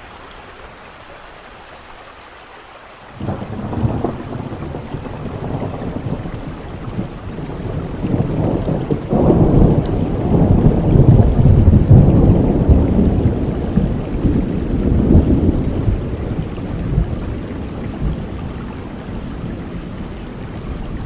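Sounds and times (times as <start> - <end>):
steady rain: 0.0 - 21.0
low roll of thunder: 3.2 - 21.0.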